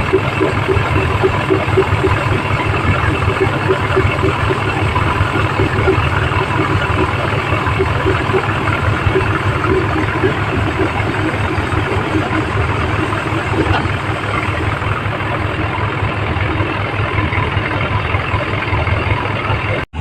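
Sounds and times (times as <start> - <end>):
harvesting machine roar: 0.0 - 20.0
low engine hum: 0.0 - 20.0.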